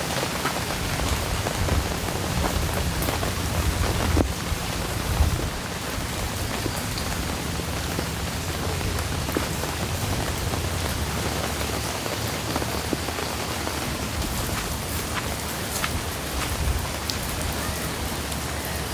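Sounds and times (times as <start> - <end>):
heavy rain pouring: 0.0 - 18.9
raindrops tapping: 0.0 - 18.9.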